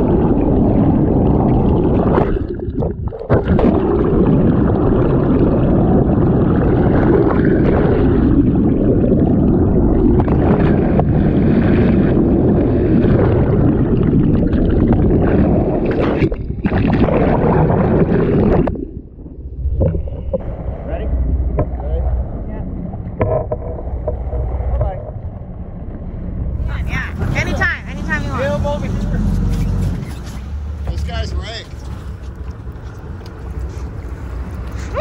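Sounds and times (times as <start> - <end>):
boat engine rumble: 0.0 - 35.0
water rushing along hull: 0.0 - 35.0.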